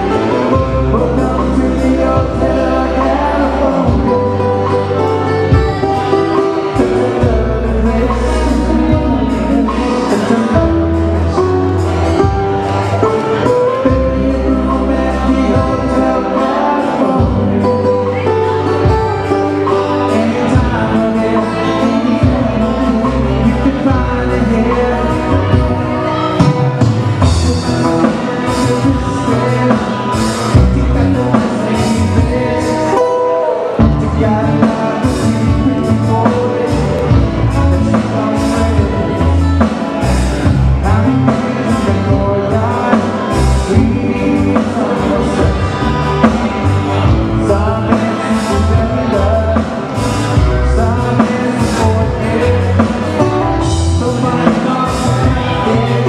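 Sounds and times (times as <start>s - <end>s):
bass line: 0.0s - 56.0s
drum kit: 0.0s - 56.0s
guitar: 0.0s - 56.0s
live band playing hawaiian music: 0.0s - 56.0s.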